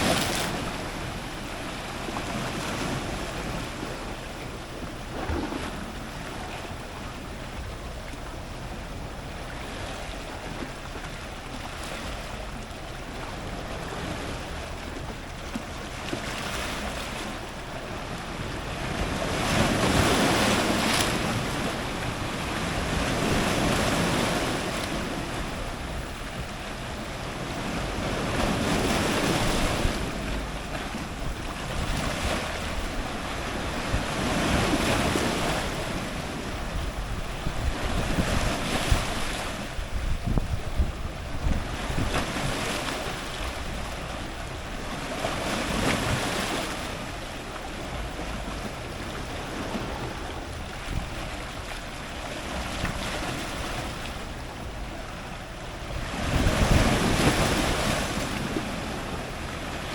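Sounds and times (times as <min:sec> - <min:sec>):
ocean surf breaking on rocks: 0:00.0 - 0:59.9.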